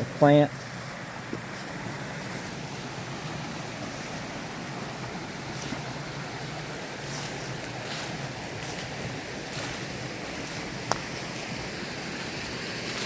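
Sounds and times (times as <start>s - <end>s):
steady outdoor rushing noise: 0.0s - 13.0s.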